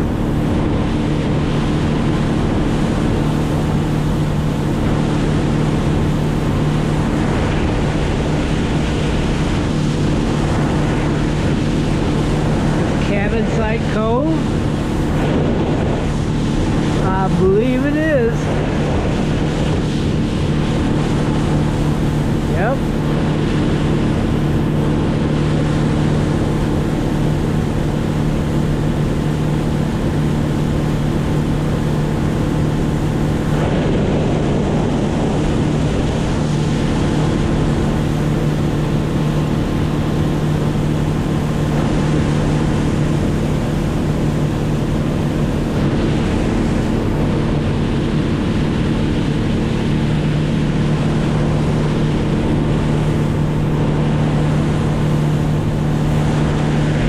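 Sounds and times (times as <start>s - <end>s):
boat motor running: 0.0s - 57.0s
rushing water: 0.0s - 57.0s
wind: 0.0s - 57.0s.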